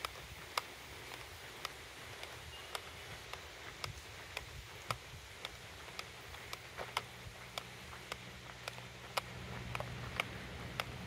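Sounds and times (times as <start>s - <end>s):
footsteps on woodland trail: 0.0s - 11.0s
low steady hum: 0.0s - 11.0s.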